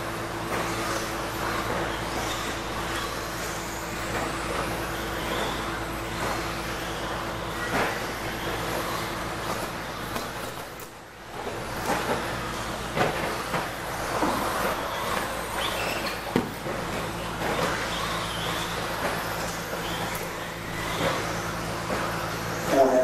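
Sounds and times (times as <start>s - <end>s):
rc truck motor whine: 0.0s - 23.0s.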